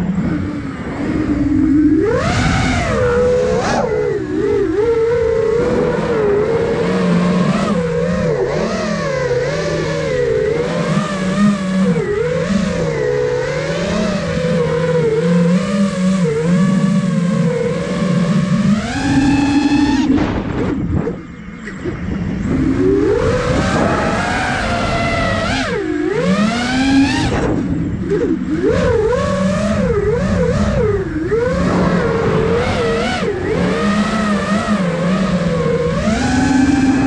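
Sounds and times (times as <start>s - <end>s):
drone motors whining: 0.0s - 37.0s.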